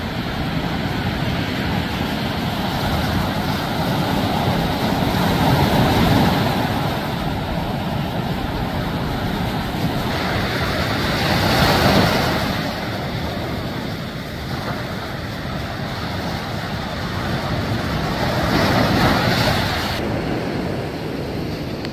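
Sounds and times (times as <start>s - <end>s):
ocean surf breaking: 0.0s - 21.9s
wind buffeting microphone: 0.0s - 21.9s.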